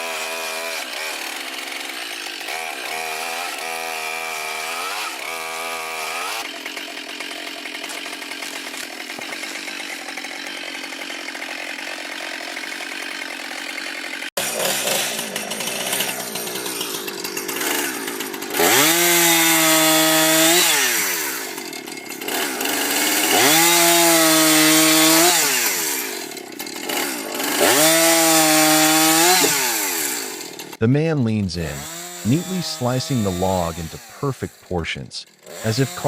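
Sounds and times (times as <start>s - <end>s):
chainsaw revving: 0.0s - 30.8s, 31.6s - 36.0s.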